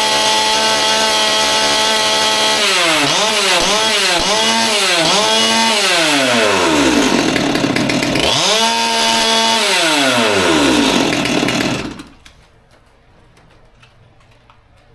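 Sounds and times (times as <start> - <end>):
chainsaw engine revving: 0.0 - 12.2.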